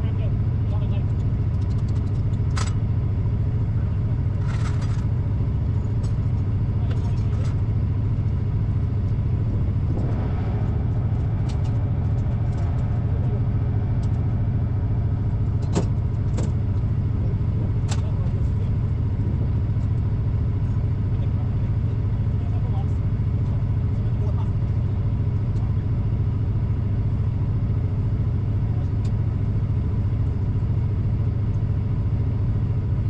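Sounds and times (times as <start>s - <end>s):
truck engine rumbling: 0.0s - 33.0s.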